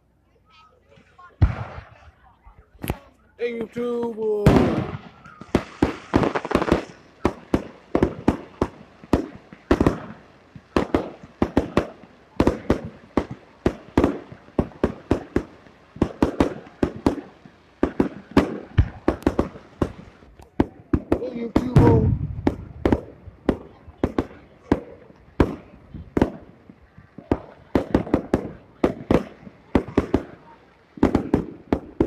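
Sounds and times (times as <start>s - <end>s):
fireworks bursting with sharp bangs: 0.4s - 32.0s.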